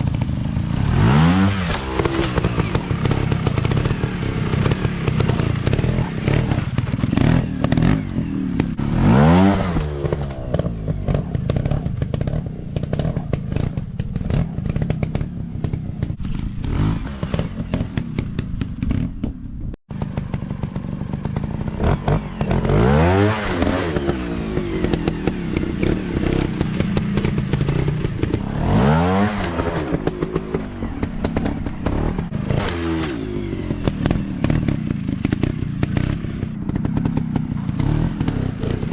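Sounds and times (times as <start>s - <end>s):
dirt bike engines revving: 0.0s - 19.2s, 20.0s - 38.9s.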